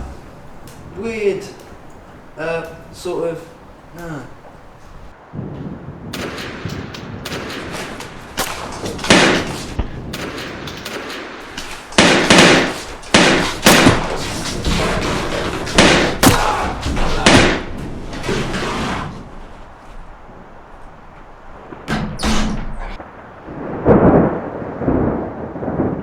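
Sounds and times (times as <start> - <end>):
continuous rough noise: 0.0 - 5.3, 6.6 - 23.4
loud bangs and thuds: 0.0 - 23.0.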